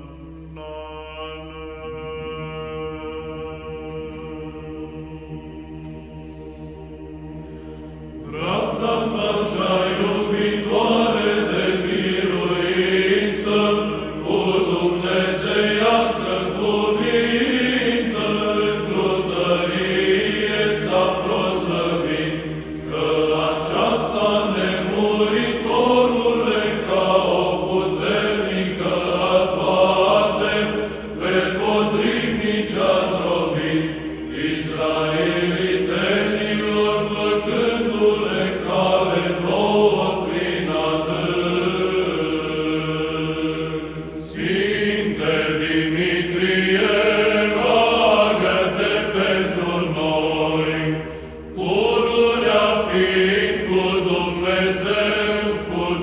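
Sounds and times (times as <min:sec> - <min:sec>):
choir chanting melody: 0:00.0 - 0:56.0.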